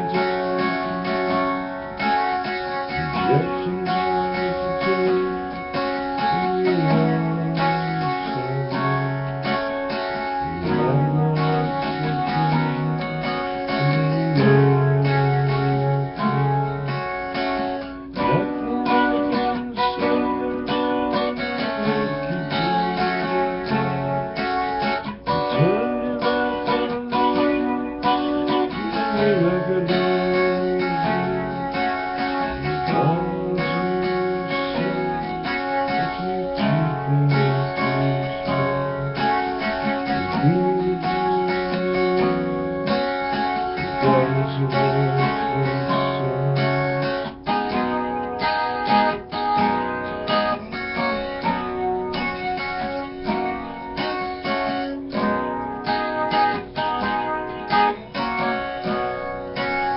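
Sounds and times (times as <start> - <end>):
swooping tones: 0.0 - 54.5
guitar chords: 0.0 - 59.9.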